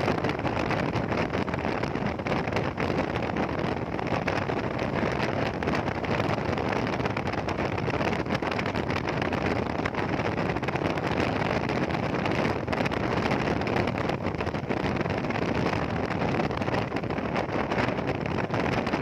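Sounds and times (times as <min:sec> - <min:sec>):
wind rushing on microphone: 0:00.0 - 0:19.0.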